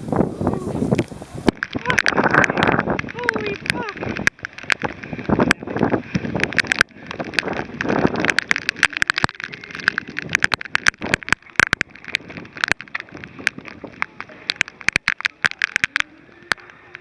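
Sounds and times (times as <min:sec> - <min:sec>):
raindrops ticking on microphone: 0:00.0 - 0:17.0
windy hiss: 0:00.0 - 0:17.0.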